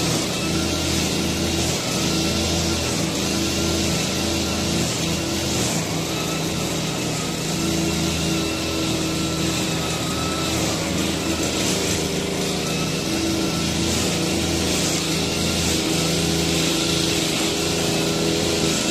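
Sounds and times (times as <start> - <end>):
brush cutters cutting grass: 0.0 - 18.9.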